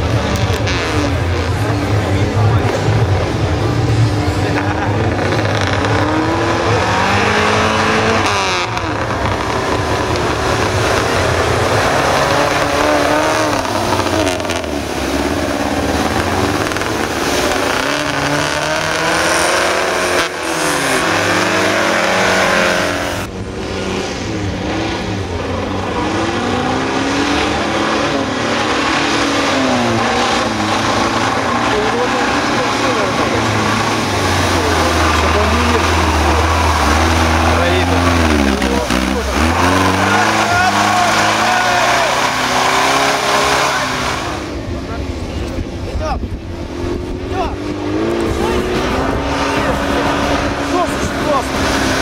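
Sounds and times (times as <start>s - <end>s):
wheels churning through mud: 0.0s - 23.3s, 25.3s - 46.0s
off-road engines revving: 0.0s - 52.0s.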